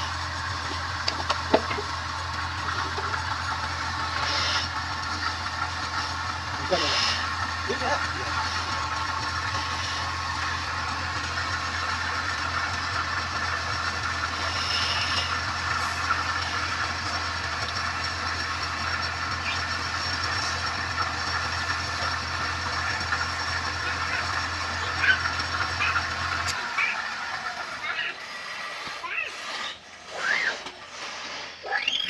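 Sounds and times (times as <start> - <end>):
lathe hiss and light rattle: 0.0 - 26.6, 27.9 - 32.0
lathe motor humming: 0.0 - 32.0.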